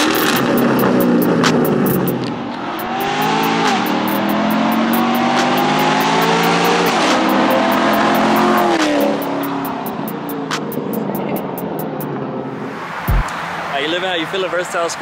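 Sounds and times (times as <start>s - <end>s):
car engine accelerating: 0.0s - 13.3s.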